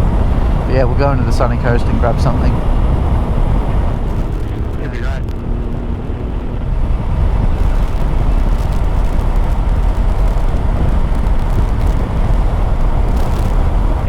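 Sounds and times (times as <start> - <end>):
motorcycle engine drone: 0.0 - 14.0
wind rush on microphone: 0.0 - 14.0.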